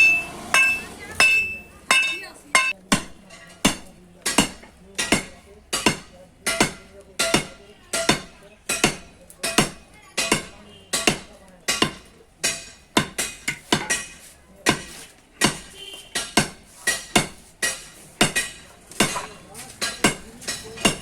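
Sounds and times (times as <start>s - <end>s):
hammer blows on metal anvil: 0.0s - 21.0s.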